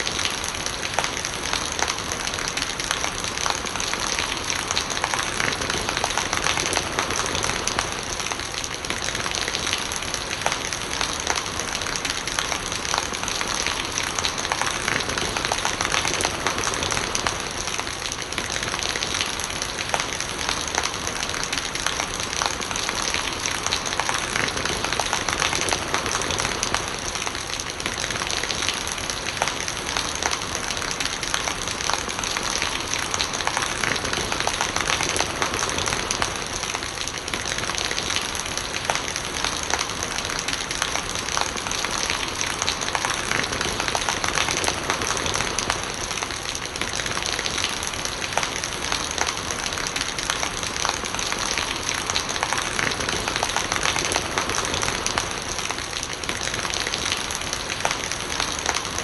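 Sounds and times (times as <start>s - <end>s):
raindrops ticking on surfaces: 0.0s - 59.0s
rainwater gurgling: 0.0s - 59.0s
steady rain falling: 0.0s - 59.0s.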